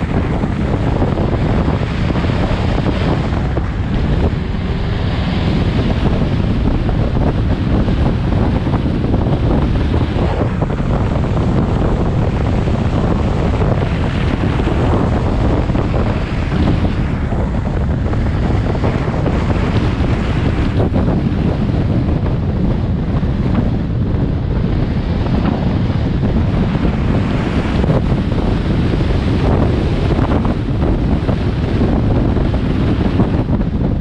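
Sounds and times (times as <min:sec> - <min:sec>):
low rumble of moving car: 0:00.0 - 0:34.0
wind buffeting microphone: 0:00.0 - 0:34.0.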